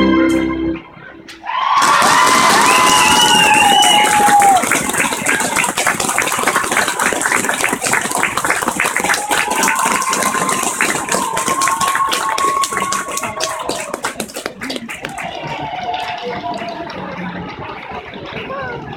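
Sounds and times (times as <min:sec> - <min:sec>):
audience clapping rapidly: 0:01.7 - 0:18.9.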